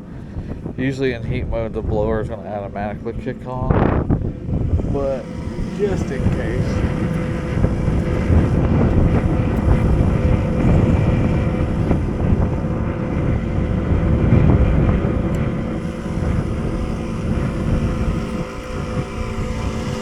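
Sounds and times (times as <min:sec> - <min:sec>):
heating unit rumble: 0:00.0 - 0:20.0
wind buffeting microphone: 0:00.0 - 0:20.0.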